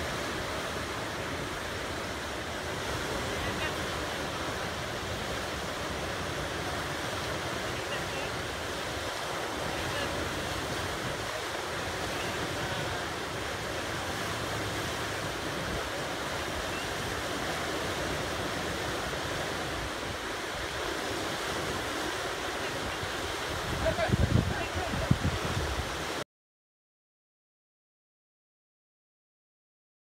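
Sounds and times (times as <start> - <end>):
river rapids rushing: 0.0 - 26.2.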